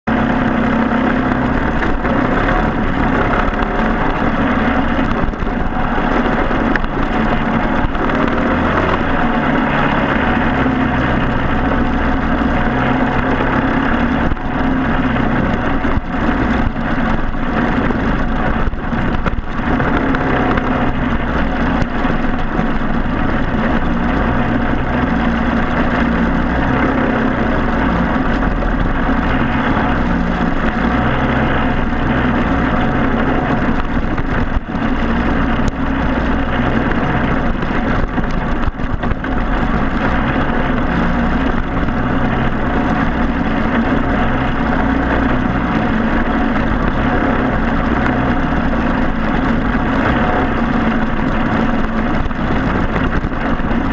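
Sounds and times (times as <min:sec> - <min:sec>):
kart engine running hard: 0:00.0 - 0:53.9.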